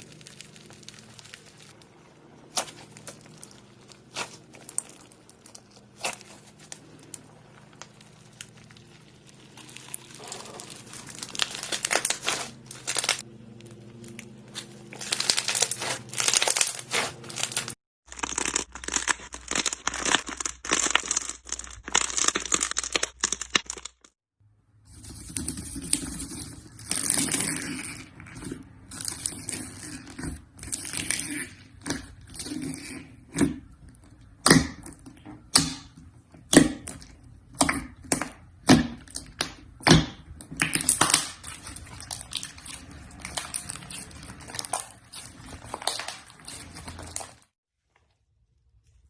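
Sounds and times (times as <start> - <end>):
slime squelching and crackling: 0.0 - 24.2, 24.9 - 49.0.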